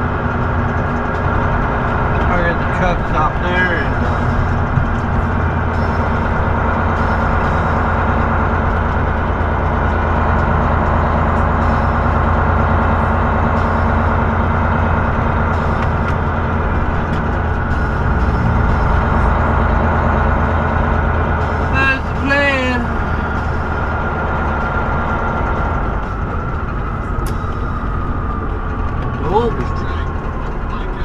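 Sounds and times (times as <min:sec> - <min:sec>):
truck engine drone: 0:00.0 - 0:31.0.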